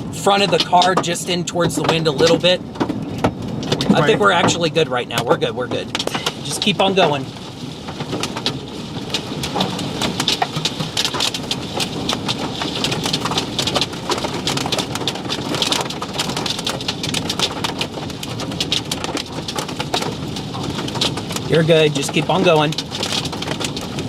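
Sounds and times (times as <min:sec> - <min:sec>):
rain pelting a car: 0:00.0 - 0:24.0
wind rumble: 0:00.0 - 0:24.0.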